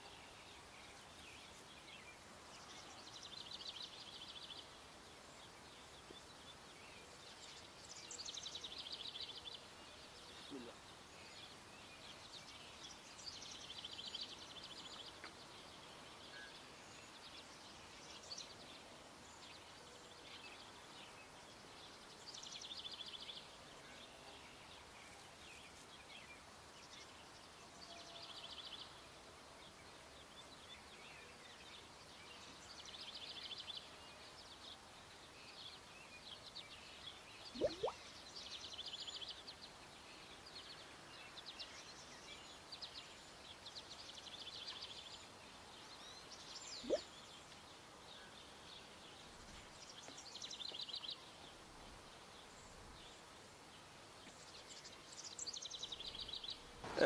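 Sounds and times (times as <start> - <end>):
small birds chirping: 0.0 - 27.6, 29.6 - 57.0.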